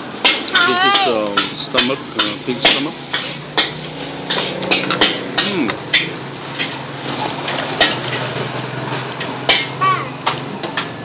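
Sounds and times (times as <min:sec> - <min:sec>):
utensils clanking on pans: 0:00.0 - 0:11.0.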